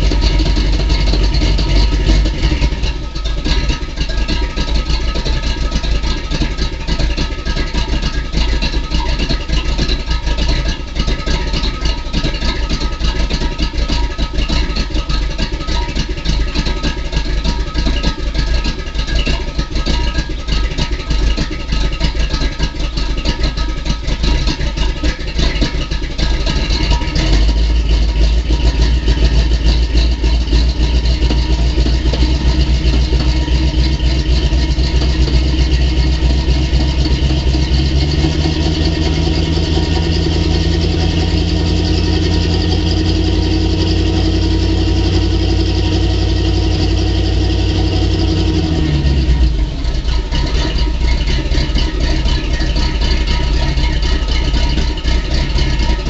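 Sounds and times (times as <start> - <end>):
pickup engine idling: 0.0 - 56.0.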